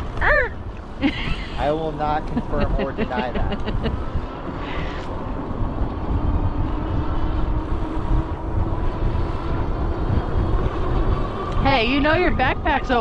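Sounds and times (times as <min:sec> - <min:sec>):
wind and tyre rumble: 0:00.0 - 0:13.0.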